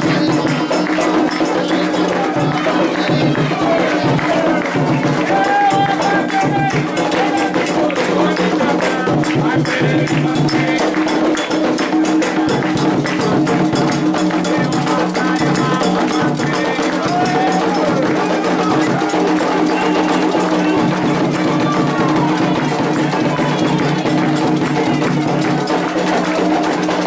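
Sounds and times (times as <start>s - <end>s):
fast drumming: 0.0s - 27.0s
voices singing: 0.0s - 27.0s.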